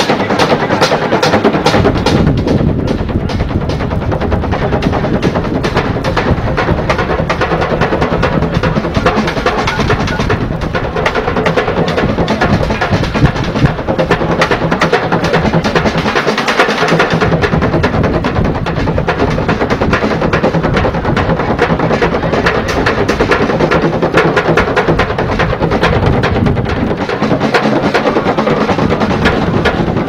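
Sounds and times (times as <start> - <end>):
drumming on buckets and pans: 0.0 - 30.0.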